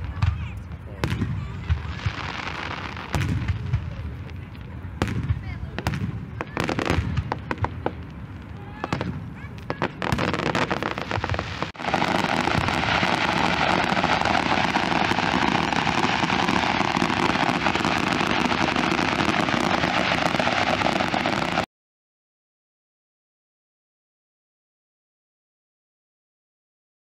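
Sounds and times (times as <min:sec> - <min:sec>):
fireworks bangs and crackling: 0:00.0 - 0:21.7.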